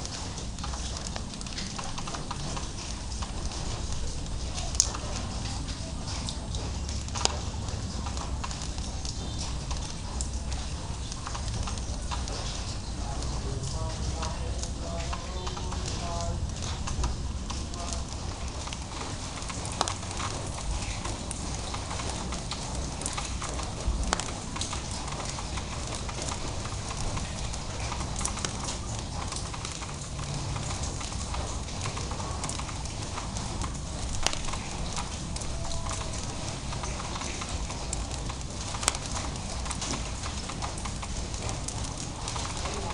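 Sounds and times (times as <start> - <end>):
light rain hiss: 0.0 - 42.9
raindrops ticking on surfaces: 0.0 - 42.9.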